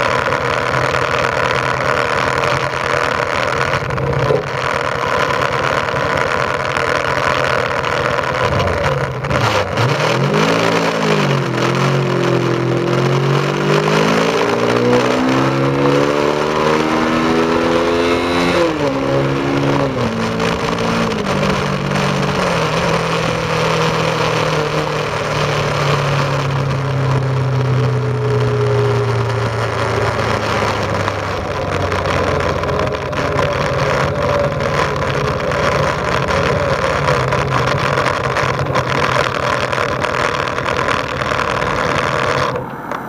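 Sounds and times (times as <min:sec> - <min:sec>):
motorcycle engine revs falling: 0:00.0 - 0:43.0.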